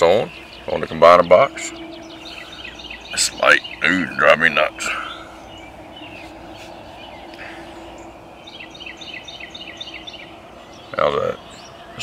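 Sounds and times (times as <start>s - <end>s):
bird chirping rapidly: 0.0s - 12.0s
faint steady hum: 0.0s - 12.0s.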